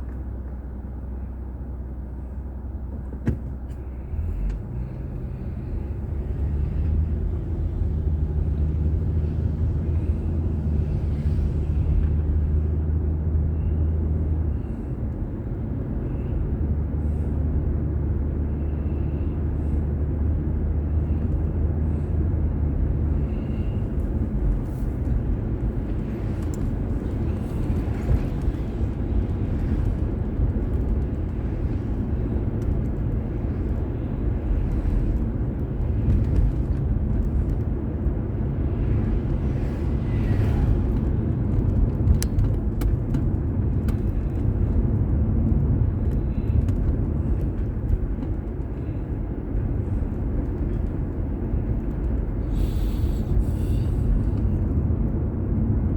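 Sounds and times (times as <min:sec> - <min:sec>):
car engine and tyre road noise: 0:00.0 - 0:55.9.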